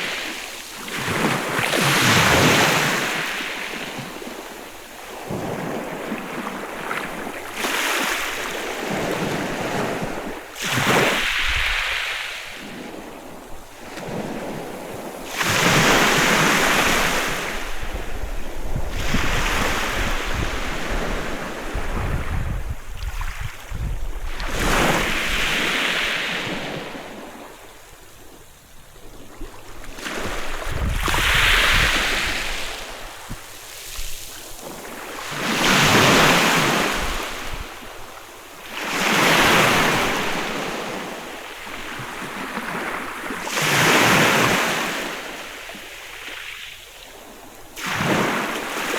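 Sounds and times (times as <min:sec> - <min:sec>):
sea waves breaking on beach: 0:00.0 - 0:48.9.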